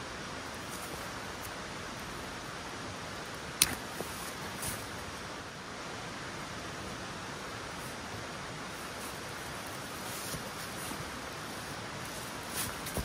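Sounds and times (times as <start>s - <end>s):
outdoor background hiss: 0.0s - 13.0s
rustle on dry leaves: 0.0s - 13.0s.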